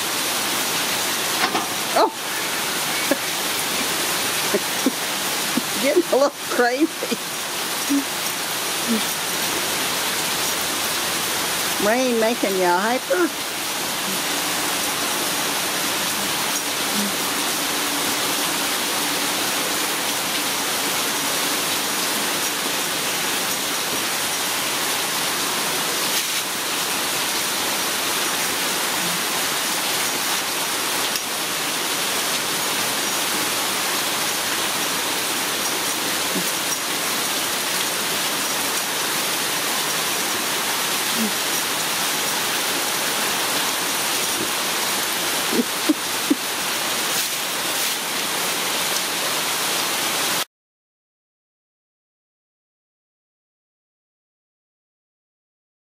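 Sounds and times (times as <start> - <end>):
steady rain: 0.0 - 50.5.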